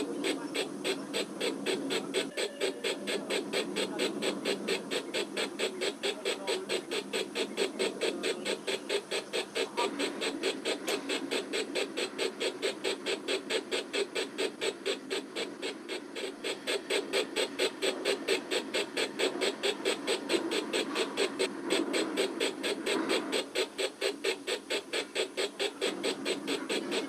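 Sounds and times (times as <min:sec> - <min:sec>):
model locomotive running noise: 0:00.0 - 0:27.0
model steam locomotive chuffing: 0:00.0 - 0:27.0.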